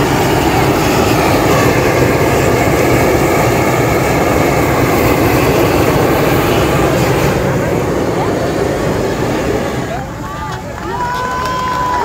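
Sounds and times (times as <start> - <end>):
gas torches rushing: 0.0 - 12.0.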